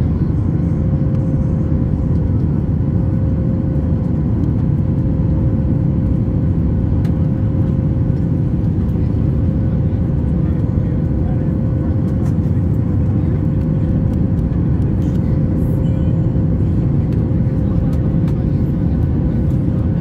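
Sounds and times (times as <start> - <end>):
jet engine and airflow rush: 0.0 - 20.0.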